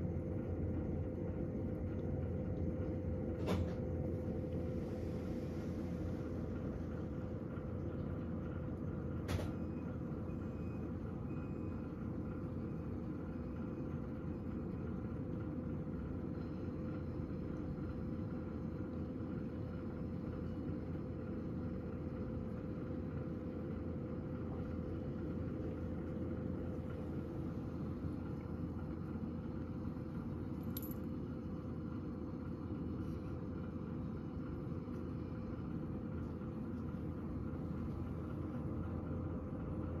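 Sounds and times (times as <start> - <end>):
fan heater humming: 0.0 - 40.0.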